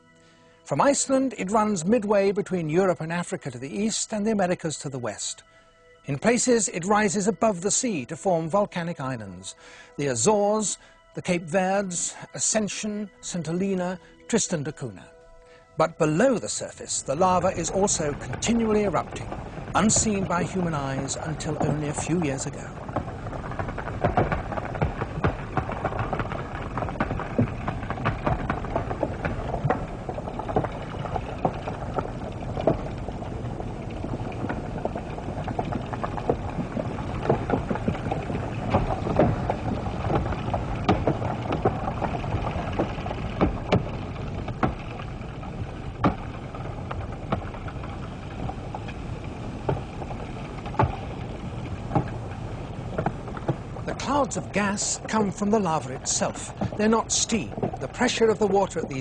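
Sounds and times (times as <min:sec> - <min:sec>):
sharp cracks and pops: 0:05.0 - 0:59.0.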